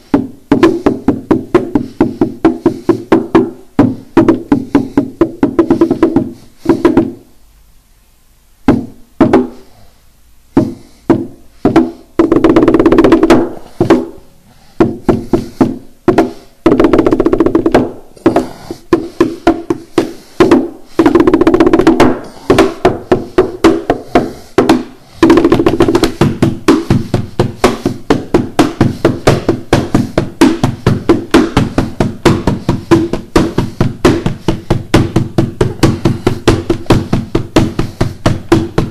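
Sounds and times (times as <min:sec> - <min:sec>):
hand percussion knocks and slaps: 0:00.0 - 0:07.3, 0:08.7 - 0:09.7, 0:10.6 - 0:14.2, 0:14.8 - 0:38.9.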